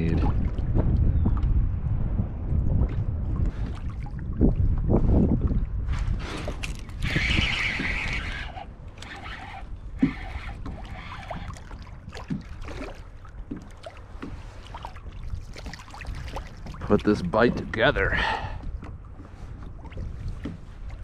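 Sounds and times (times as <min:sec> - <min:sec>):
water lapping at kayak hull: 0:00.0 - 0:21.0
wind buffeting microphone: 0:00.0 - 0:21.0.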